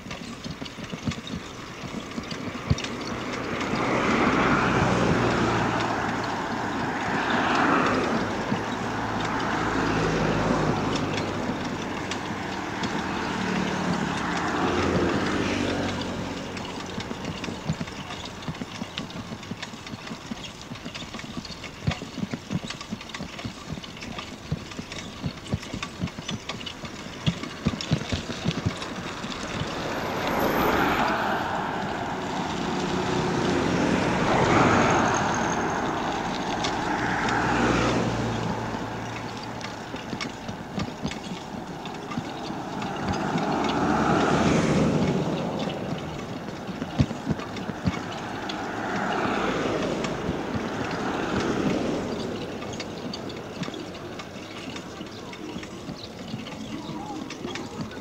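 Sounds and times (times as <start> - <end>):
clicking and rattling: 0.0 - 58.0
vehicles passing on road: 0.0 - 58.0.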